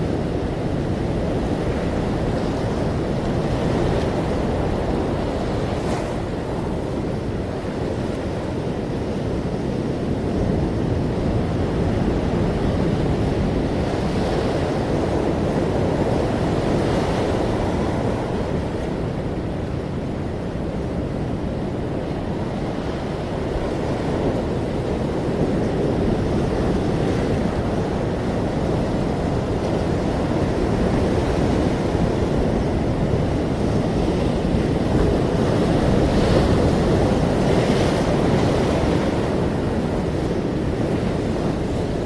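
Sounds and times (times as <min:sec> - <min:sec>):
ocean waves washing onto shore: 0:00.0 - 0:42.0.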